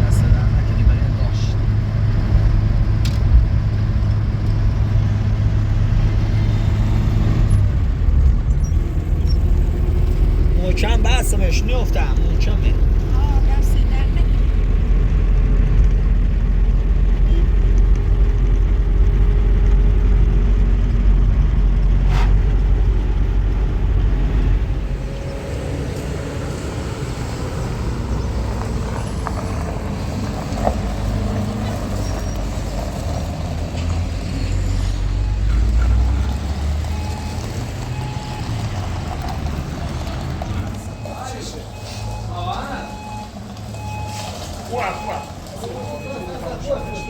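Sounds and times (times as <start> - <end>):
car engine rumbling: 0.0 - 47.0.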